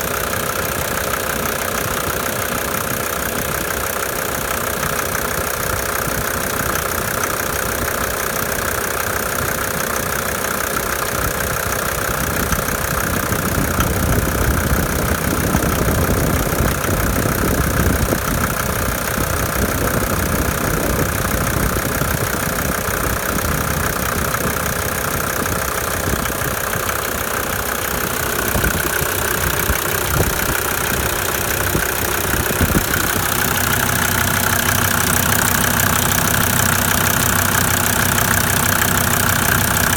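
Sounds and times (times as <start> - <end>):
diesel engine idling roughly: 0.0 - 39.9.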